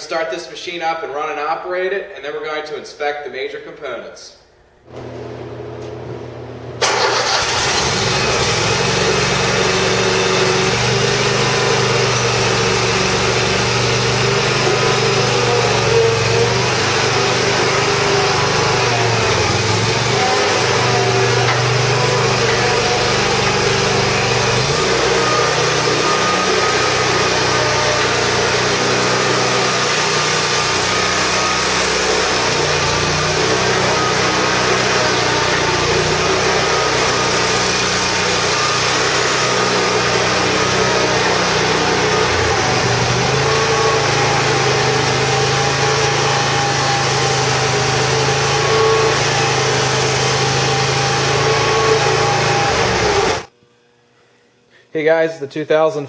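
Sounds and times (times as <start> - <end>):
mower engine running: 6.8 - 53.5.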